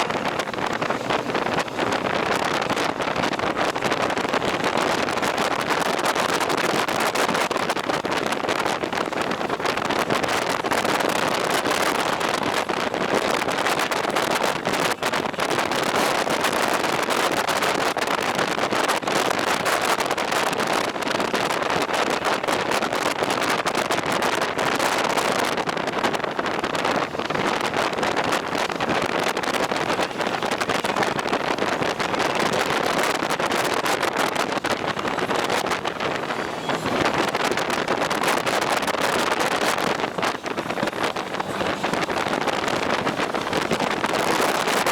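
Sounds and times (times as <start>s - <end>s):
road and vehicle noise: 0.0s - 44.9s
wind buffeting microphone: 0.0s - 44.9s.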